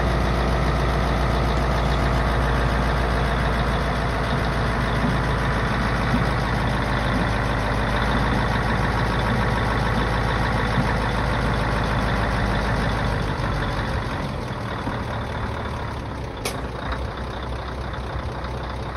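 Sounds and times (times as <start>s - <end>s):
diesel truck engine running: 0.0s - 18.9s.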